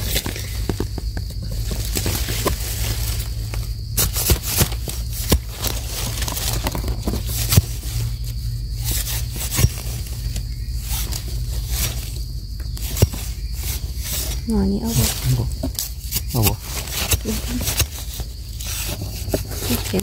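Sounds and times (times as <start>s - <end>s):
leaves rustling: 0.0s - 20.0s
loose soil scraping: 0.0s - 20.0s.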